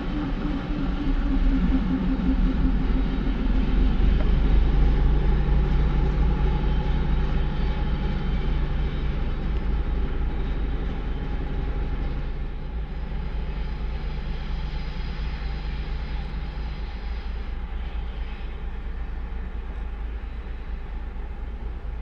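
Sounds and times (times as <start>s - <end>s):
steady low hum: 0.0s - 22.0s
train rumbling past: 0.0s - 22.0s.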